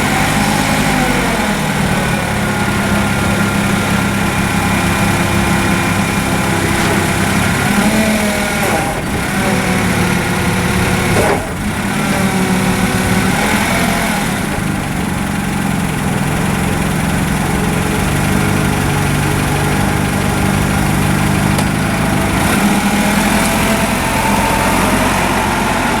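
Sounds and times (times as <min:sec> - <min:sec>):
forklift engine running: 0:00.0 - 0:26.0.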